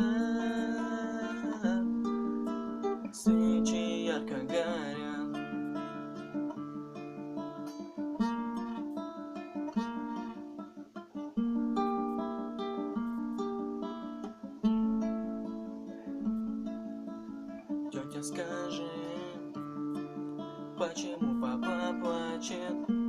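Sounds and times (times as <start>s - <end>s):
acoustic guitar picking: 0.0s - 23.0s.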